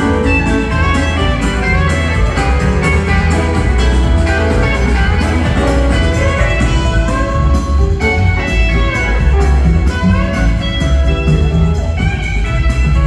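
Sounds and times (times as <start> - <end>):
lead guitar with bent notes: 0.0 - 13.0
live rock band: 0.0 - 13.0.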